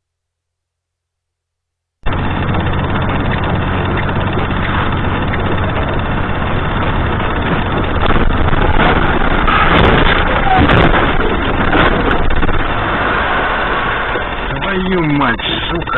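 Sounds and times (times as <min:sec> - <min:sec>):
car engine and road noise: 0:02.0 - 0:15.9.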